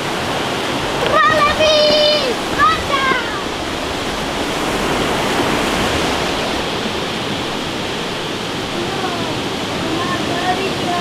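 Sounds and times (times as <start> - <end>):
river rushing over rapids: 0.0 - 11.0.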